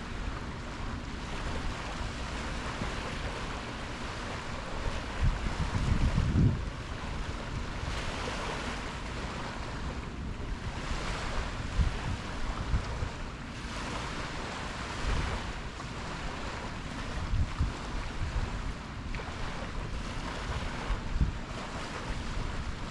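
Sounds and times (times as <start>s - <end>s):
ocean waves washing in: 0.0s - 22.9s
wind buffeting microphone: 0.0s - 22.9s.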